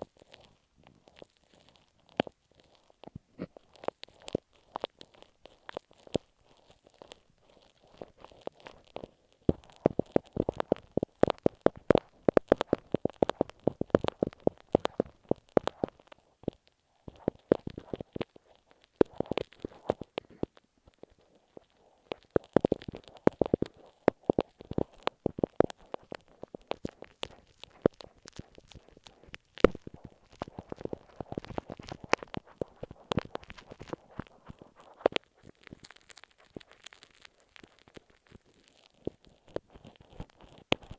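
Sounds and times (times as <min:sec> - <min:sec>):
glue stick crackling on tape: 0:00.0 - 0:40.9.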